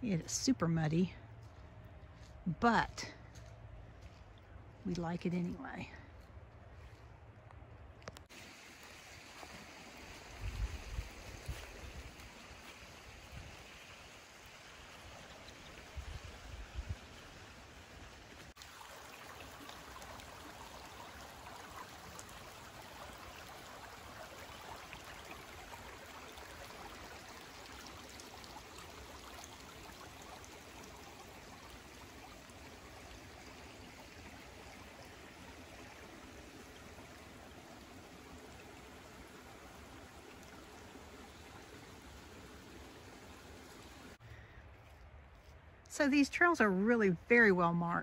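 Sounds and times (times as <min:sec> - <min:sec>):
creek water trickling: 0:00.0 - 0:48.0.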